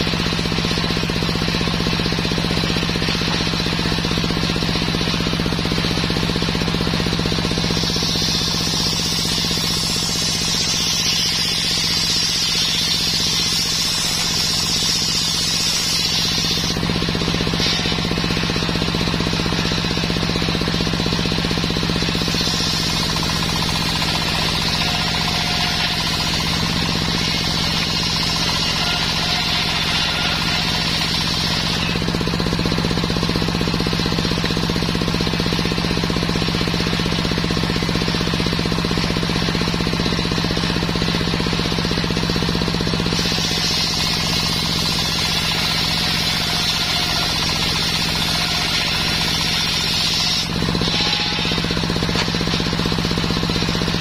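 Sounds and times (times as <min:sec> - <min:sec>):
circular saw motor running: 0:00.0 - 0:54.0
saw cutting wood: 0:00.0 - 0:54.0.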